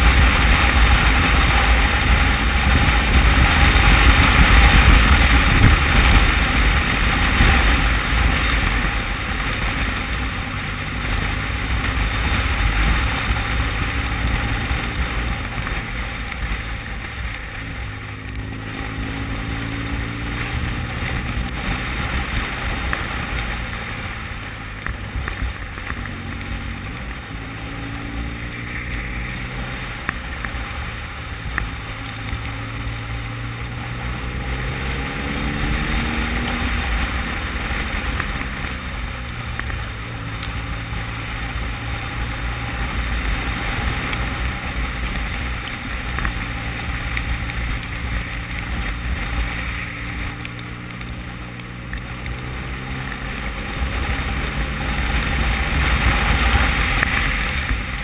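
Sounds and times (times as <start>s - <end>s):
motorcycle engine: 0.0s - 58.0s
wind rushing over microphone: 0.0s - 58.0s.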